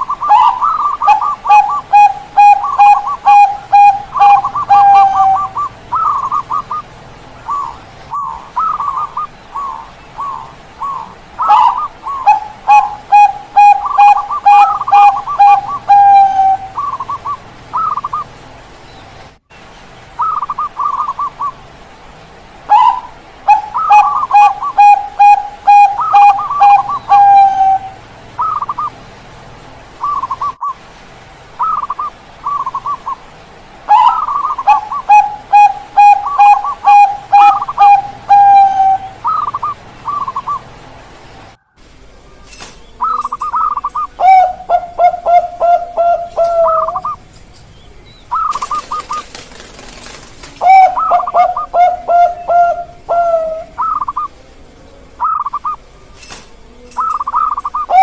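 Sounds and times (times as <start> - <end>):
doves cooing: 0.0 - 18.4, 20.2 - 21.6, 22.7 - 29.1, 29.9 - 30.8, 31.6 - 40.8, 41.4 - 47.3, 48.2 - 58.0.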